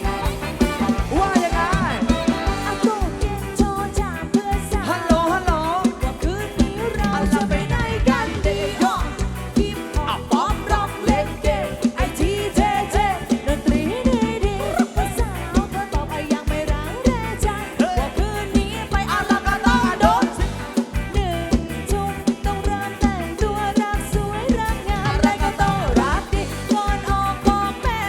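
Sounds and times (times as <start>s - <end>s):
fast drum beat: 0.0s - 28.0s
person singing: 0.0s - 28.0s
sliding melody line: 0.0s - 28.0s.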